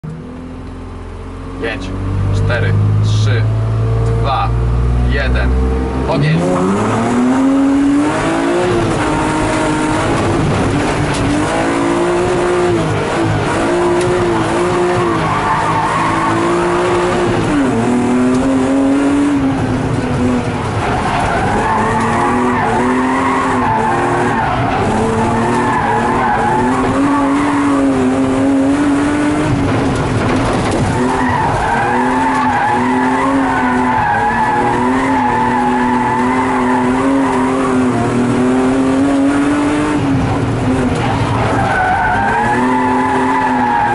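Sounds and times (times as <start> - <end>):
tyres skidding: 0.1 - 43.9
race car engine pulling hard: 1.0 - 43.9.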